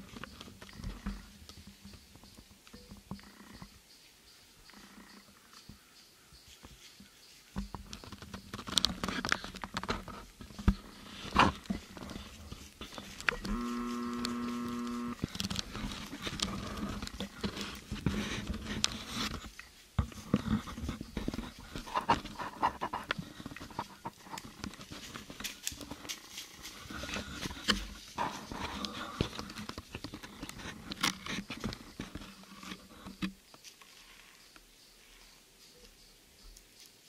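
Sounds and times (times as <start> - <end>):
close rustling and knocking: 0.0 - 3.8, 6.4 - 34.6.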